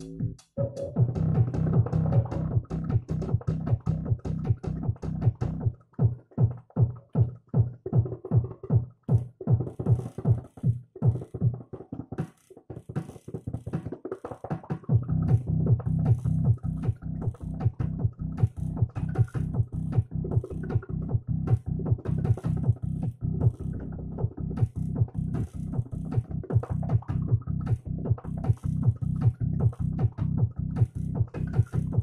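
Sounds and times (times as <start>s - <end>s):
fast drum machine beat: 0.0s - 32.0s.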